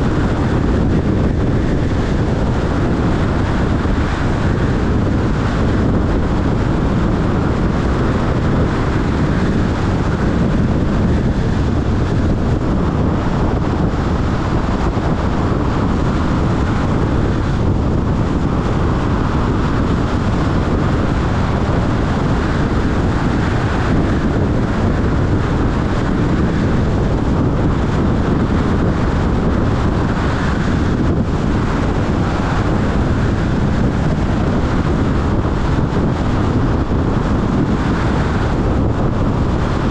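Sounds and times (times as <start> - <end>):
tyre rumble on highway: 0.0 - 39.9
wind buffeting microphone: 0.0 - 39.9.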